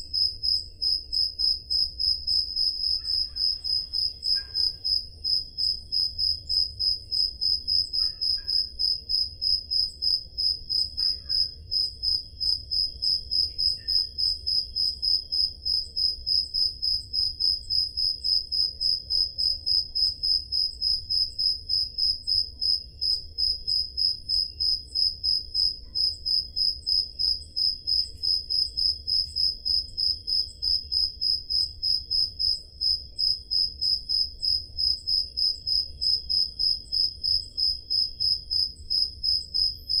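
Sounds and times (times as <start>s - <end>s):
cricket chirping: 0.0s - 40.0s
faint steady insect trill: 0.0s - 40.0s.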